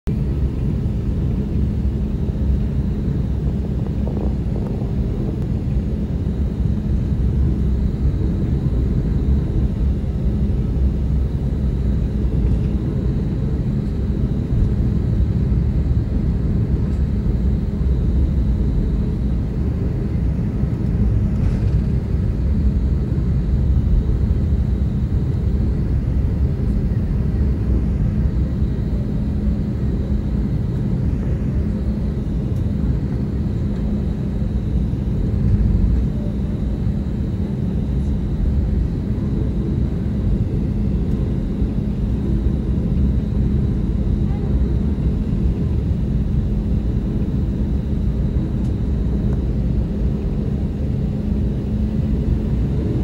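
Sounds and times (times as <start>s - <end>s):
jet engines deep rumble: 0.0s - 53.0s
faint high whine: 0.2s - 53.0s.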